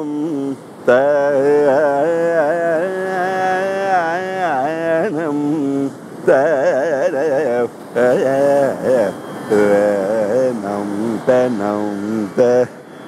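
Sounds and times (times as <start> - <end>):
man singing with ornaments: 0.0 - 13.0
tambura drone: 0.0 - 13.0.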